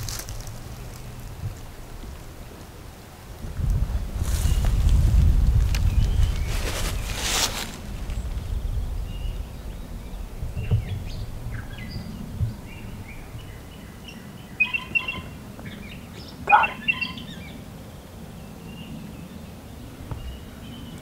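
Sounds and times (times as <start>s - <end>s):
songbirds chirping: 0.0s - 3.4s, 4.2s - 21.0s
wind rumble on microphone: 0.0s - 21.0s.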